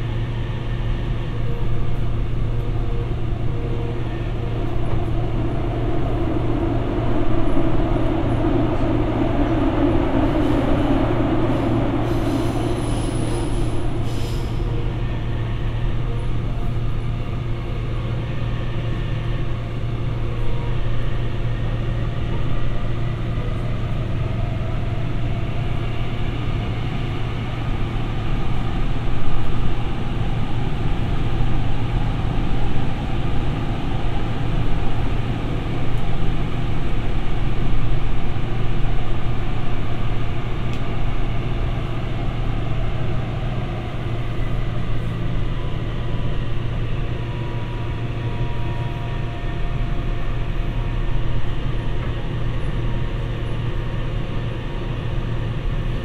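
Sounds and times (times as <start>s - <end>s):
subway wheels rumbling: 0.0s - 56.0s.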